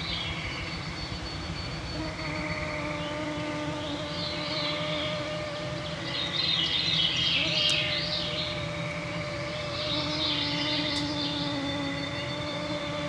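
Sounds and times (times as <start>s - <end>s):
mosquito whine: 1.5s - 13.0s.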